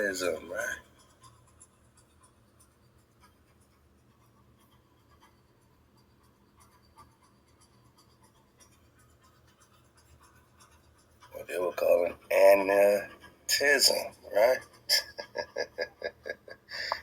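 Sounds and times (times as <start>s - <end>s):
faint soft ticks and scratches: 0.0s - 17.0s.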